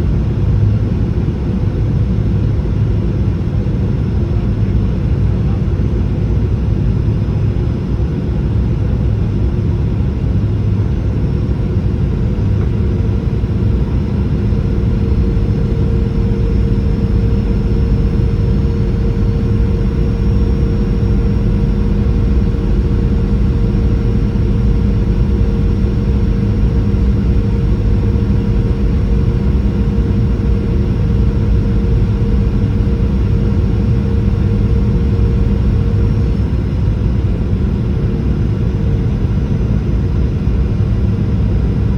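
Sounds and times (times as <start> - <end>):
jet engines droning: 0.0 - 41.9.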